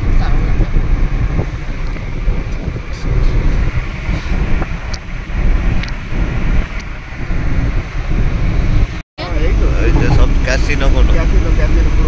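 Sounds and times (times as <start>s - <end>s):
car road rumble: 0.0s - 12.0s
wind buffeting microphone: 0.0s - 12.0s.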